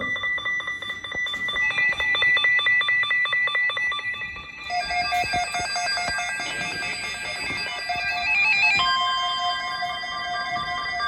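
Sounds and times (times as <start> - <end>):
electronic alert tones beeping: 0.0 - 11.0
lower electronic tone: 0.0 - 11.0.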